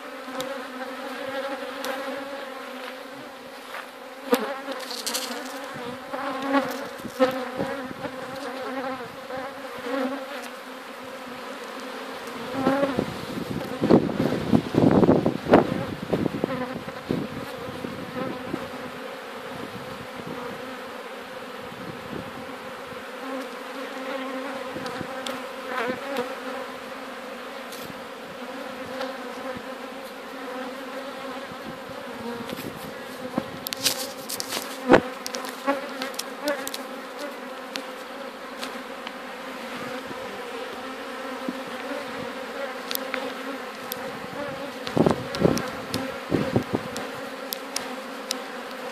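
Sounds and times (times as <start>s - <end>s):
bee swarm humming: 0.0s - 48.9s
bees buzzing past: 0.0s - 48.9s.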